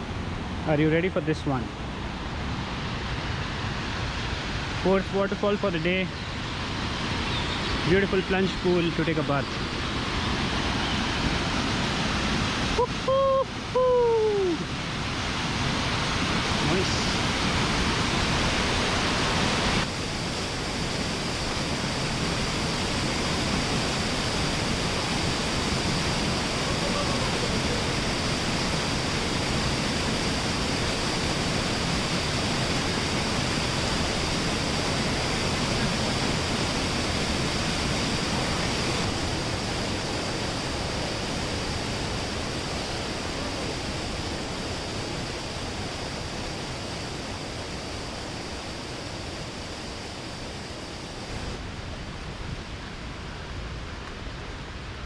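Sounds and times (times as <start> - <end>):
waterfall rushing: 0.5 - 52.4.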